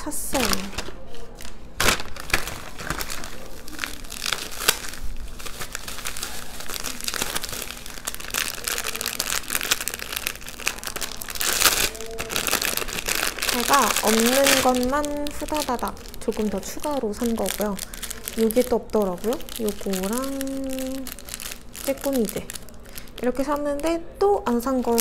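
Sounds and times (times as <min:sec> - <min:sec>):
bubble wrap and plastic crinkling: 0:00.0 - 0:25.0.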